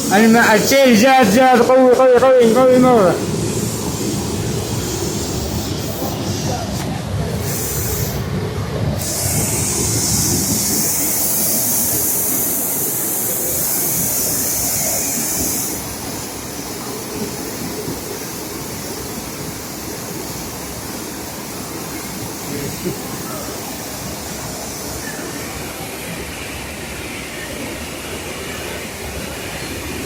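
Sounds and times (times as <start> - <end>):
bright hiss: 0.0 - 30.0
floodwater roaring: 0.0 - 30.0.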